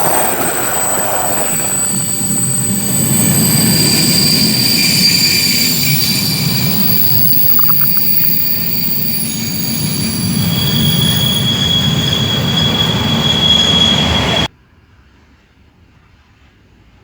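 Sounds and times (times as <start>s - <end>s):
high steady squealing tones: 0.0s - 14.5s.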